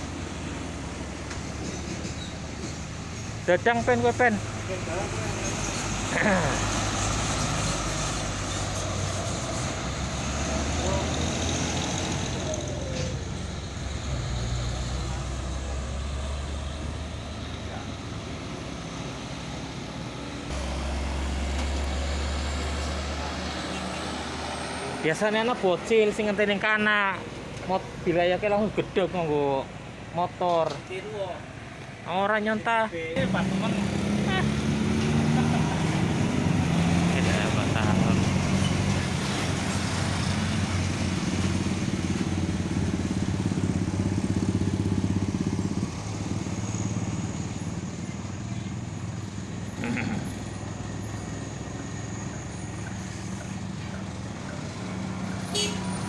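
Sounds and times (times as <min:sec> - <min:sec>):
truck engine rumbling: 0:00.0 - 0:56.0.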